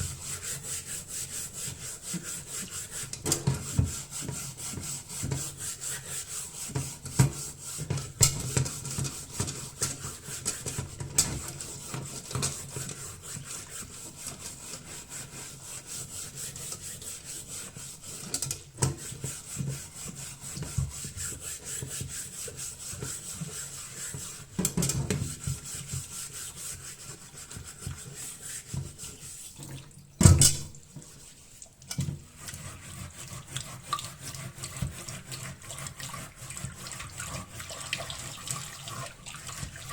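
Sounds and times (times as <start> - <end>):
scrubbing at a kitchen sink: 0.0 - 39.9.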